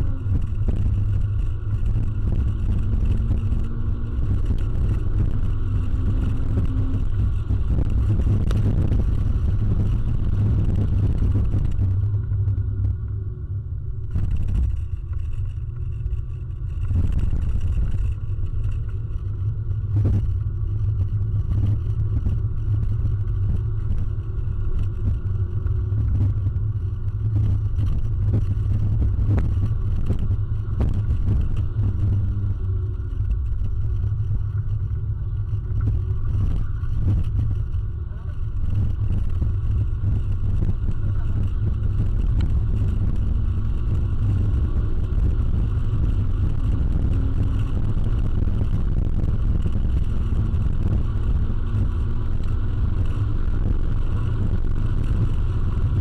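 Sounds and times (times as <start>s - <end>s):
car engine droning under load: 0.0s - 56.0s
road rumble: 0.0s - 56.0s.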